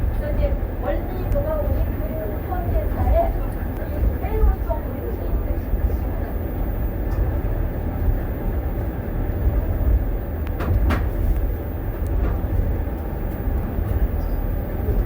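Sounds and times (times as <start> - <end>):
train car rumbling on track: 0.0 - 15.0.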